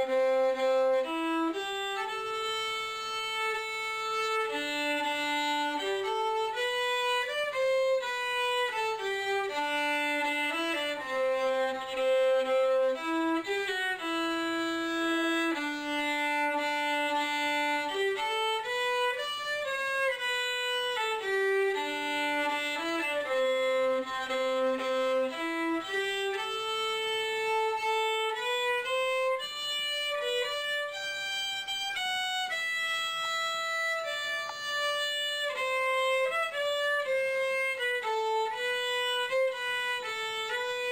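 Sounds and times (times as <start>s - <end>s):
solo violin melody: 0.0s - 40.9s.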